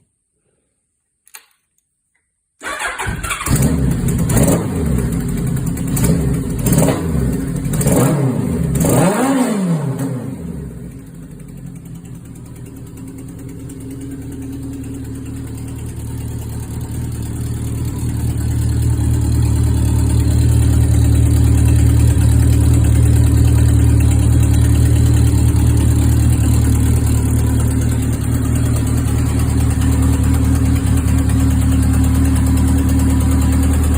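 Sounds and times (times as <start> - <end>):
motorcycle engine revving and idling: 2.7 - 33.9.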